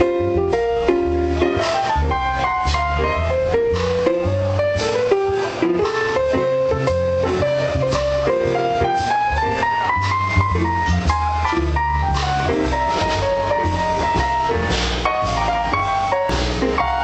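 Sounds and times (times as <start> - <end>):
instrumental music with steady beat: 0.0 - 17.0.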